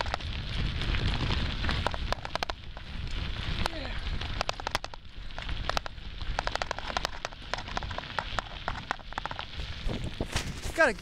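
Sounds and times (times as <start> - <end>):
bike rattling and clicking: 0.0 - 11.0
tyres crunching on gravel: 0.0 - 11.0
wind rumble on microphone: 0.0 - 11.0.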